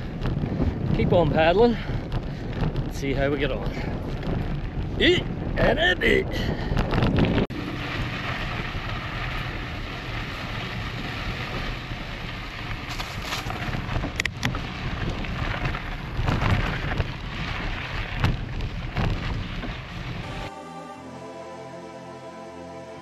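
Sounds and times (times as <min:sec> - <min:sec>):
bike tyres crunching over gravel: 0:00.0 - 0:05.6, 0:06.6 - 0:20.3
bike rattling over bumps: 0:00.0 - 0:05.7, 0:06.3 - 0:20.2.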